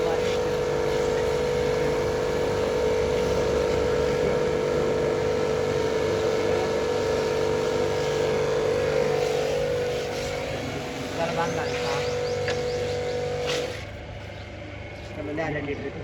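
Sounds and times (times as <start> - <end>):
engine droning: 0.0 - 16.0
steady whine: 0.0 - 16.0.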